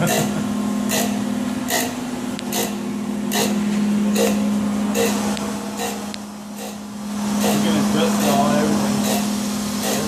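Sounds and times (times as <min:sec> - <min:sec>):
grinding hiss: 0:00.0 - 0:10.0
surface grinder humming: 0:00.0 - 0:10.0.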